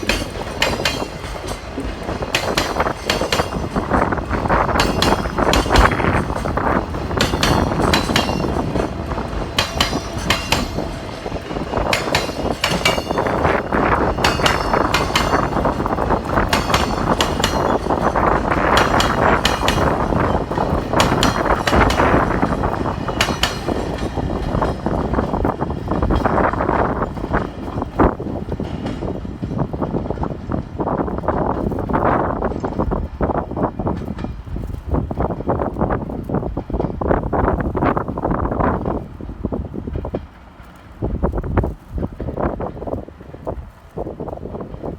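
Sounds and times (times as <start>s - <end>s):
train rumble: 0.0s - 44.9s
train wheels knocking on rail joints: 0.0s - 44.9s.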